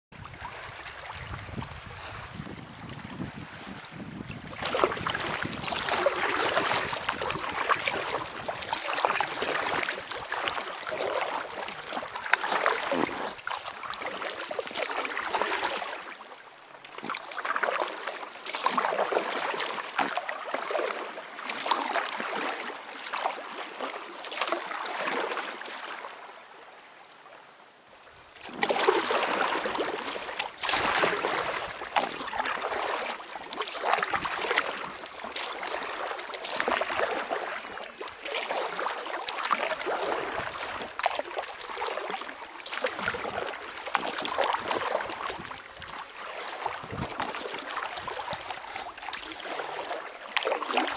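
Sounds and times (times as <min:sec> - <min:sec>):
paddle strokes splashing in water: 0:00.1 - 0:26.3, 0:28.0 - 0:50.9.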